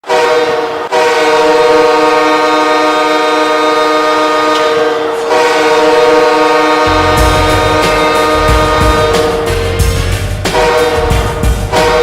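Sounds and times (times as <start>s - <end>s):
goal horn blasts: 0.0s - 12.0s.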